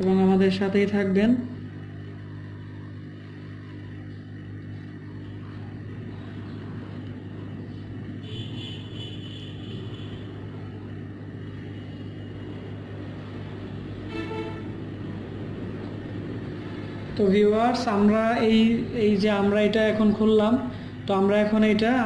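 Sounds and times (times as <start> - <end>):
hot-air blower droning: 0.0 - 22.0.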